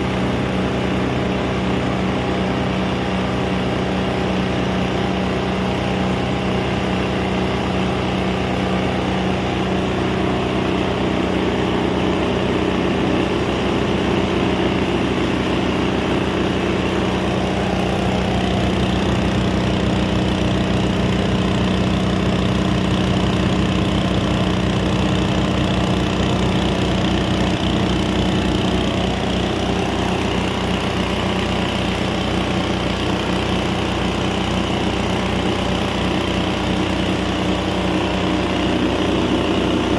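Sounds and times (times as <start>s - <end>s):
grinding machine running: 0.0s - 39.9s.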